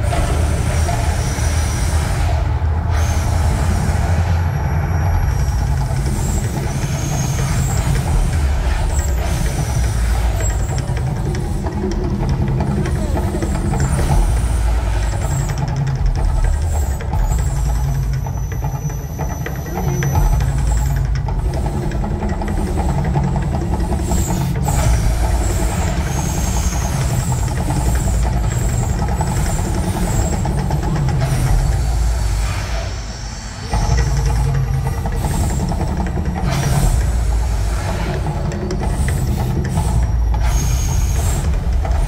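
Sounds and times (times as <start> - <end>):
deep continuous rumble: 0.0 - 42.0
hissing bursts: 0.0 - 42.0.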